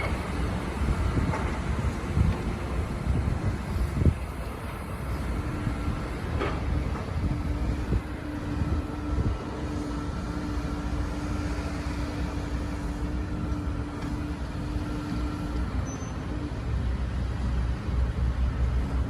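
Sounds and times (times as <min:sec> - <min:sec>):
constant whine: 0:00.0 - 0:19.0
excavator diesel engine rumble: 0:00.0 - 0:19.0.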